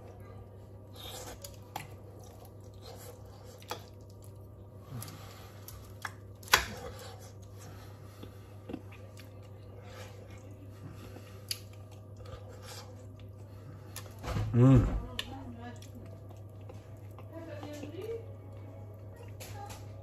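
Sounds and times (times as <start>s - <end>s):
forks squishing and scraping food: 0.0s - 20.0s
steady low hum: 0.0s - 20.0s.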